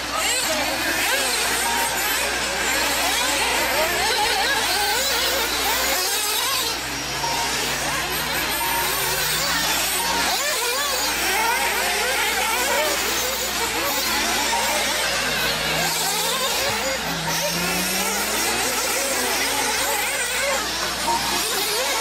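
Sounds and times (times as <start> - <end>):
rc car engines whining: 0.0 - 22.0.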